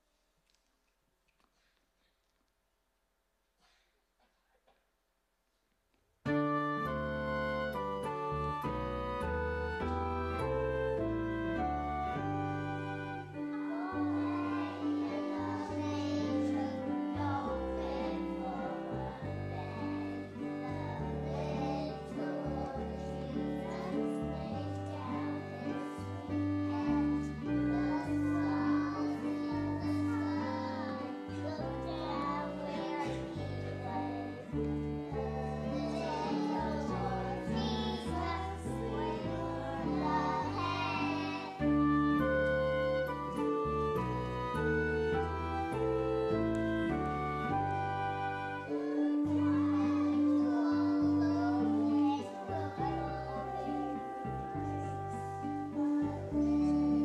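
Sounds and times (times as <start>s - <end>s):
instrumental accompaniment: 6.2s - 57.0s
children singing: 6.3s - 57.0s.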